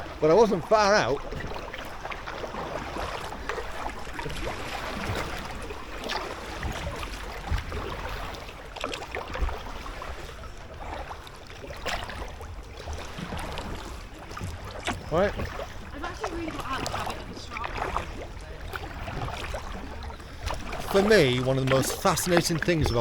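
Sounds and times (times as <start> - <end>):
paddle splashing in water: 0.0 - 23.0.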